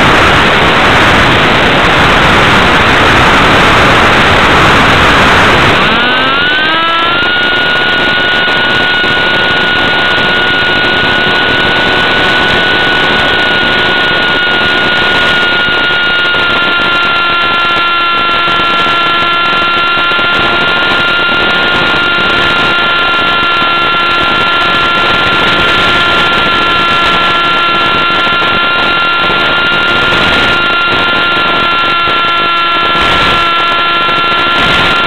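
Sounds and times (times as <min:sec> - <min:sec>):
electric motor and propeller whine: 0:00.0 - 0:35.0.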